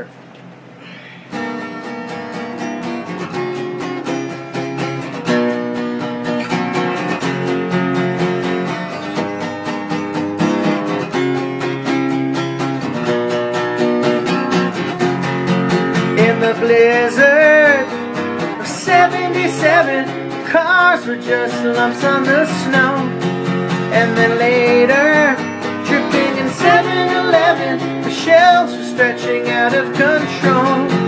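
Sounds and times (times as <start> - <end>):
acoustic guitar strumming: 0.9 - 31.0.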